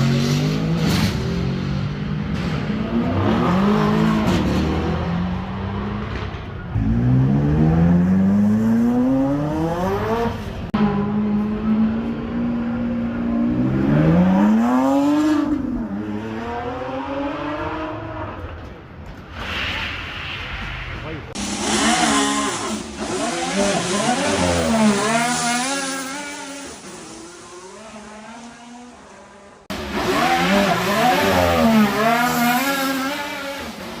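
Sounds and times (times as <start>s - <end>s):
car engine revving and accelerating: 0.0s - 18.5s, 21.4s - 34.0s.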